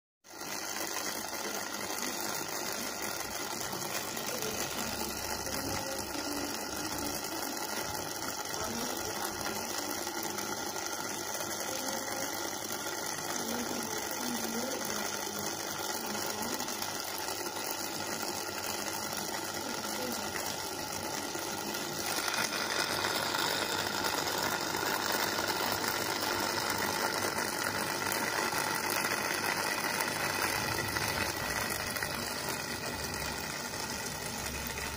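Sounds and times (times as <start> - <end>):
aquarium pump hissing: 0.3 - 34.9.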